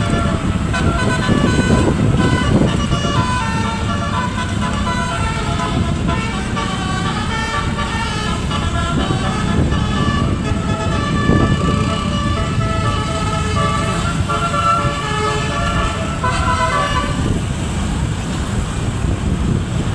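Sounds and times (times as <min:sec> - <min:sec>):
multi-tone vehicle horn melody: 0:00.0 - 0:17.8
engine rumbling: 0:00.0 - 0:19.9.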